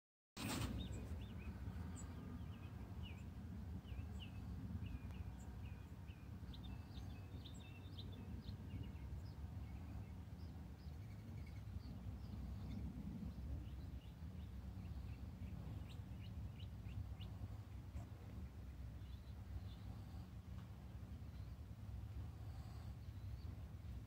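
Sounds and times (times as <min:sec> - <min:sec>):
songbirds chirping: 0:00.4 - 0:24.0
steady low rumble: 0:00.4 - 0:24.0.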